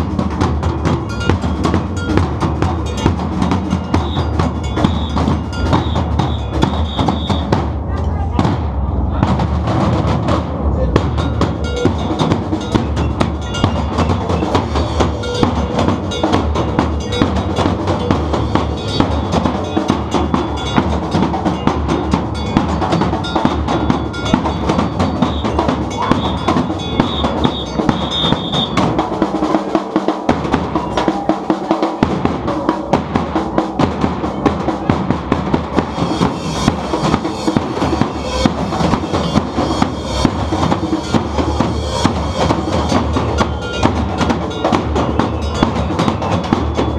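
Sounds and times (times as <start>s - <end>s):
bass drums: 0.0s - 46.9s
snare drums: 0.0s - 46.9s.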